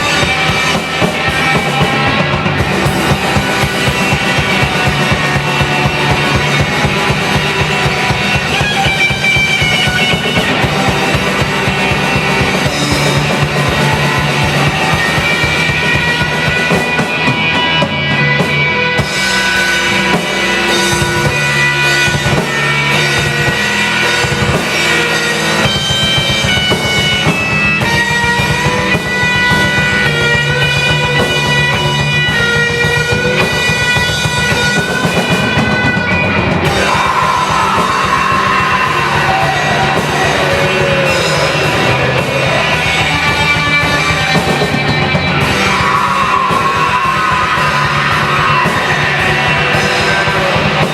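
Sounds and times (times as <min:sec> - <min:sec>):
distorted guitars: 0:00.0 - 0:50.9
fast dense drumming: 0:00.0 - 0:50.9
heavy metal song: 0:00.0 - 0:50.9.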